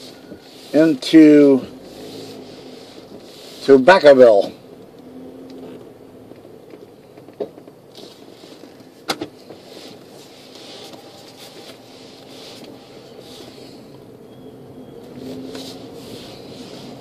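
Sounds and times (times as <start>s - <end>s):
car rolling hum inside cabin: 0.0s - 17.0s.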